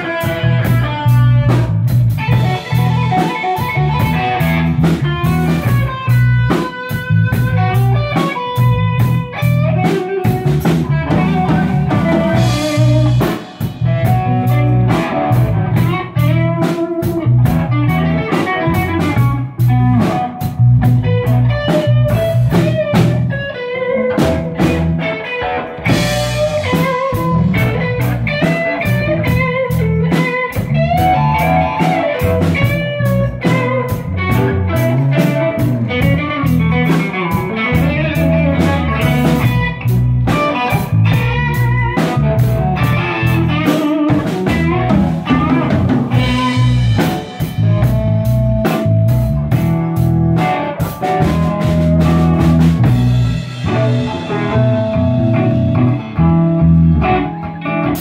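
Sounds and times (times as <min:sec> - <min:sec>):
drum kit: 0:00.0 - 0:58.0
electric guitars playing: 0:00.0 - 0:58.0.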